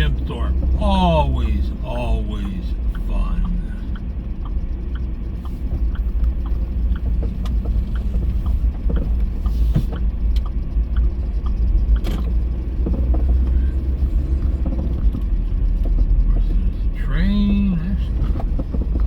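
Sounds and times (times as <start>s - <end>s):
road vehicle rumble: 0.0s - 19.0s.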